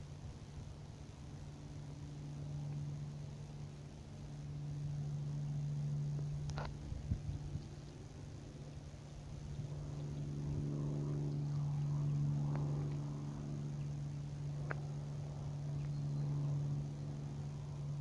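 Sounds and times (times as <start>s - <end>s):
low hum with overtones: 0.0s - 18.0s.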